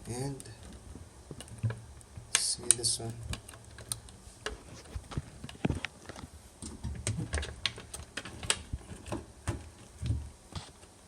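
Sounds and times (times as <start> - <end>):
small parts clicking and tapping: 0.0 - 11.0.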